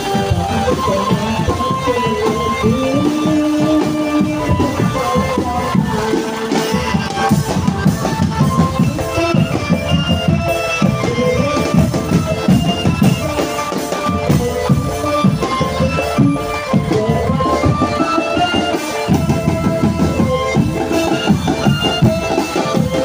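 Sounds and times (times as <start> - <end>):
marching drums beating: 0.0 - 23.0
melody of held notes: 0.0 - 23.0.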